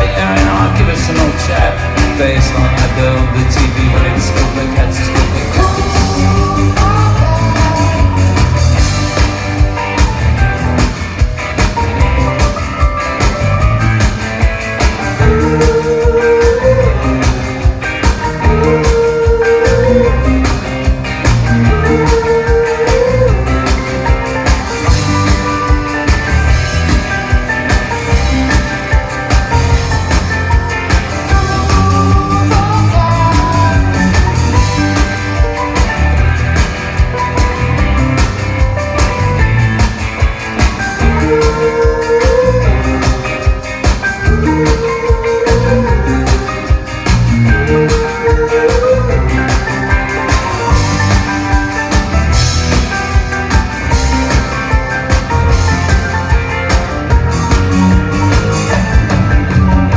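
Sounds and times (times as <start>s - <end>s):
bass: 0.0s - 59.9s
lead melody line: 0.0s - 59.9s
rock band playing: 0.0s - 59.9s
steady drum beat: 0.0s - 59.9s.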